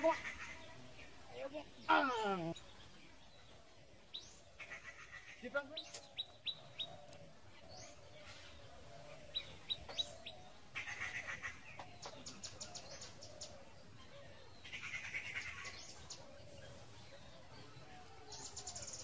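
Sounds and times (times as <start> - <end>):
bird chirps: 1.8 - 19.0.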